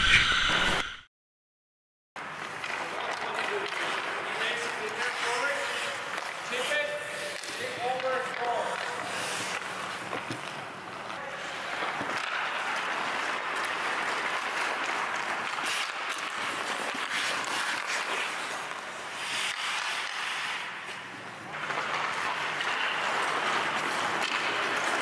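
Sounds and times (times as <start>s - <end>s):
skate blades scraping ice: 2.2s - 25.0s.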